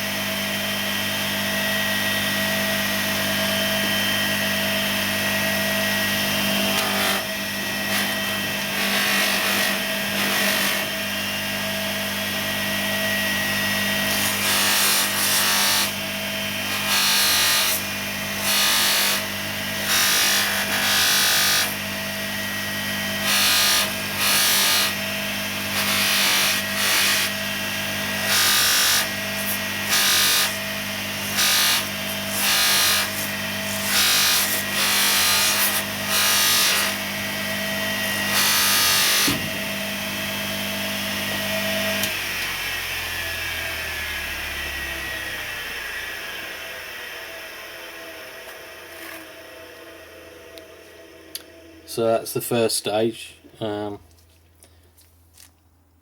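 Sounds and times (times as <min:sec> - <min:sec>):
bench grinder motor hum: 0:00.0 - 0:51.8.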